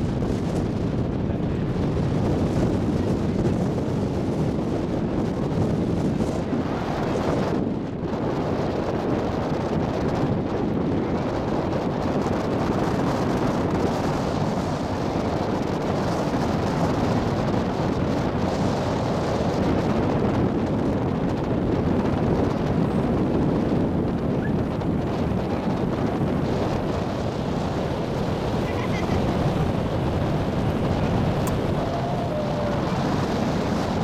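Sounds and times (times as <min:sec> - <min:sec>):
boat engine: 0:00.0 - 0:34.0
water along hull: 0:00.0 - 0:34.0
wind buffeting microphone: 0:00.0 - 0:34.0.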